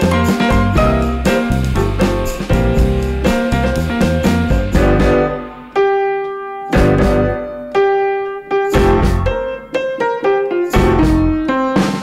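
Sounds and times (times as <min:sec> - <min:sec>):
piano playing chords: 0:00.0 - 0:12.0.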